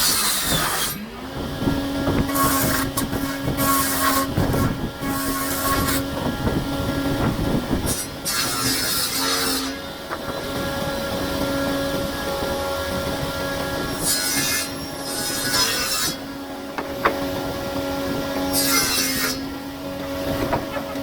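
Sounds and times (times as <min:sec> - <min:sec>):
hissing wood cutting: 0:00.0 - 0:21.0
power tool whine: 0:00.0 - 0:21.0.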